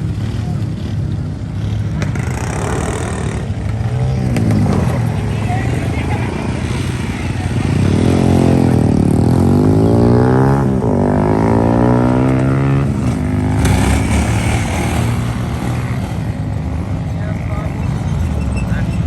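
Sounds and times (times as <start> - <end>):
motorbike engine revving: 0.0 - 19.0.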